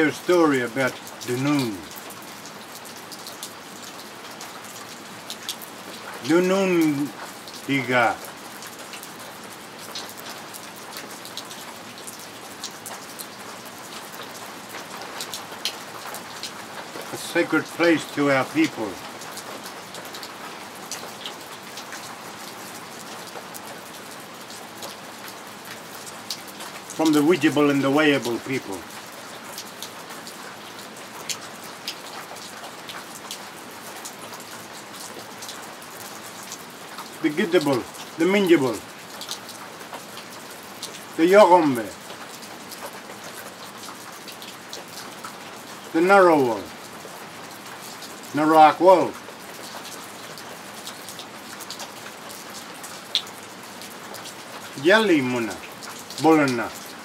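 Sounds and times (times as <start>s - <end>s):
raindrops tapping: 0.0s - 57.0s
steady rain falling: 0.0s - 57.0s.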